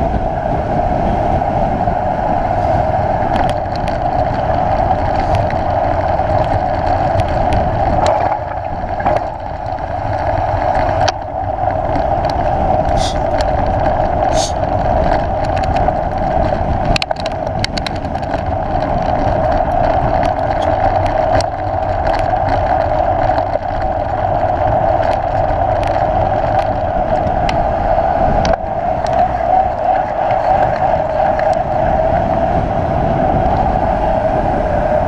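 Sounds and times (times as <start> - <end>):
bike tyre noise: 0.0 - 35.0
wind rushing: 0.0 - 35.0
bike clicks and rattles: 2.2 - 35.0.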